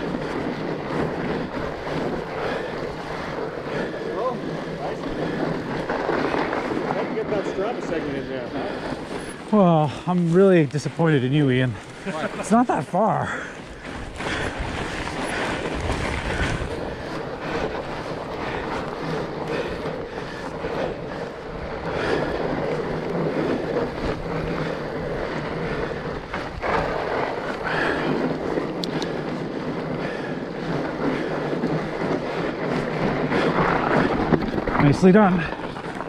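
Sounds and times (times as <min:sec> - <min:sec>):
bike drivetrain rattle and hum: 0:00.0 - 0:36.0
bike tyres rolling on trail: 0:00.0 - 0:36.0.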